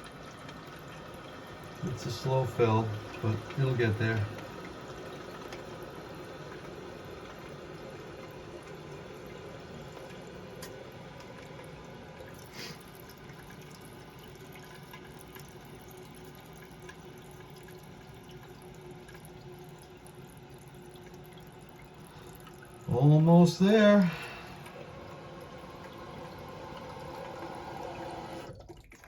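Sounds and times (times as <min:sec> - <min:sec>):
water running into toilet tank: 0:00.0 - 0:29.0.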